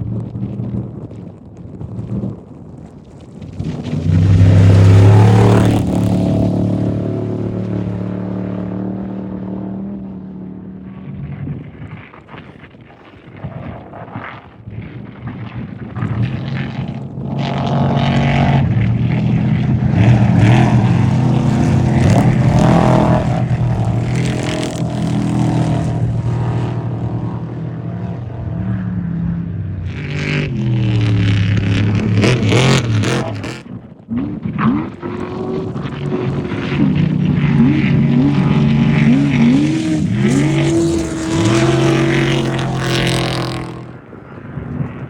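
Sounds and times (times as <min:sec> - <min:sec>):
off-road race engines passing by: 0:03.4 - 0:12.6, 0:15.0 - 0:45.0
engine revving: 0:03.6 - 0:11.2, 0:16.0 - 0:45.0.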